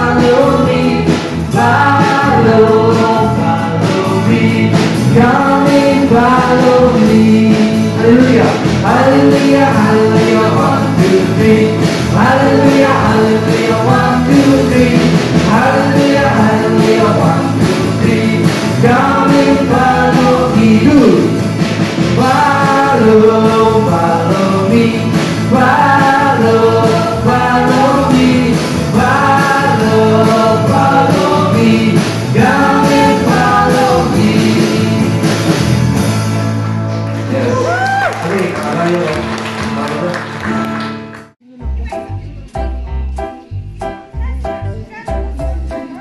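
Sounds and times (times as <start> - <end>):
worship song with band: 0.0 - 40.9.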